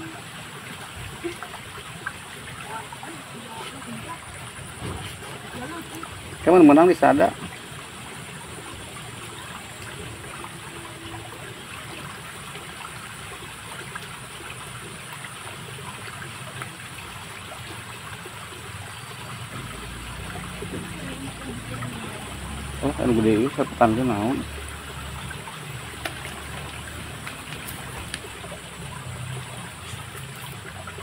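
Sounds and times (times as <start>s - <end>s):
stream trickling: 0.0s - 31.0s.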